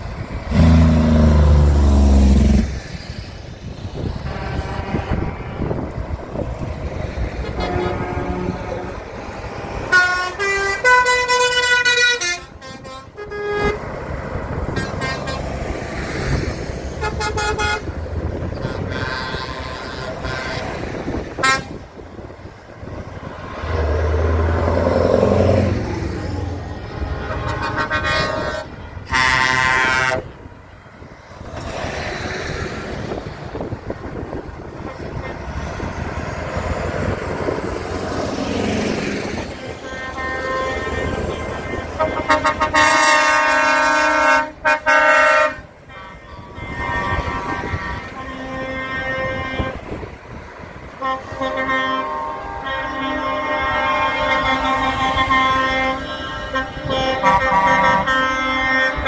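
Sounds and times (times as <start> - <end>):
truck horns: 0.0 - 59.0
trucks driving past: 0.0 - 59.0.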